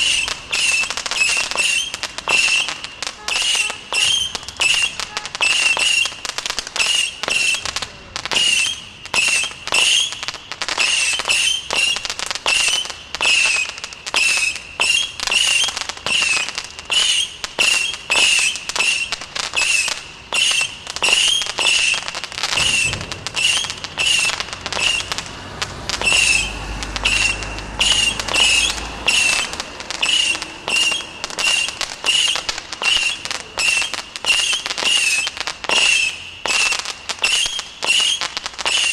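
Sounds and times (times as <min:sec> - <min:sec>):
wavering whistle: 0:00.0 - 0:07.7, 0:08.4 - 0:25.2, 0:26.0 - 0:38.9
firework cake firing rapid shots: 0:00.0 - 0:38.9
firework crackling: 0:00.0 - 0:38.9.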